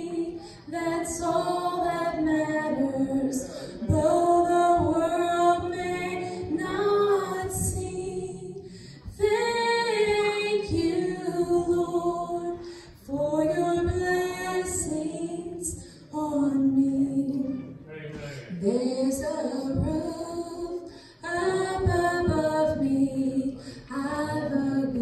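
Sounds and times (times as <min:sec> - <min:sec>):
woman singing unaccompanied: 0:00.0 - 0:17.6, 0:18.5 - 0:25.0.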